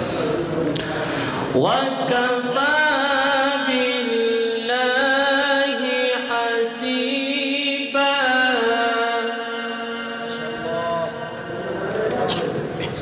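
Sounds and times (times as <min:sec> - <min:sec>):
man reciting melodically: 0:01.4 - 0:13.0.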